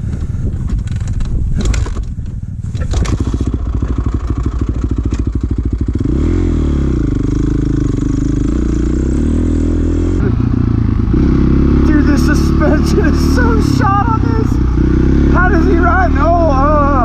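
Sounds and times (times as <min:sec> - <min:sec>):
dirt bike engine revving: 0:02.7 - 0:17.0.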